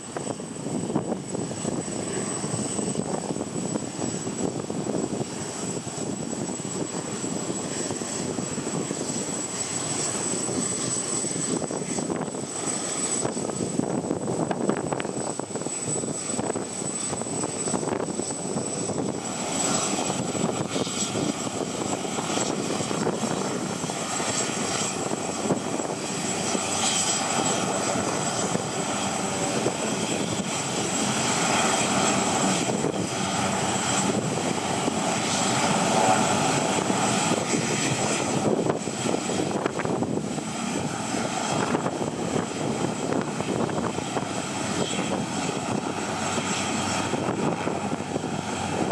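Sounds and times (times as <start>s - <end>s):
jet engines whining: 0.0s - 48.9s
wind buffeting microphone: 0.0s - 48.9s.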